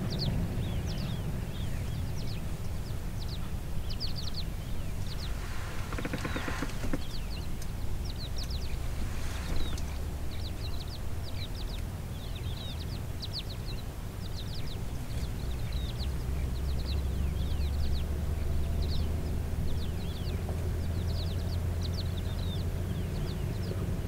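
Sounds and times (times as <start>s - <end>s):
low rumble: 0.0s - 24.0s
small birds chirping: 0.0s - 24.0s.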